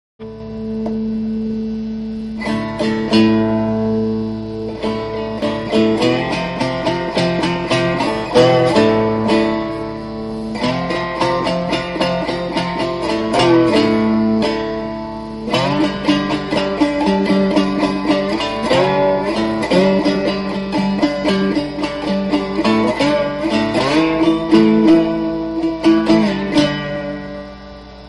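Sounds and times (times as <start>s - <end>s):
slide guitar notes: 0.2s - 28.0s.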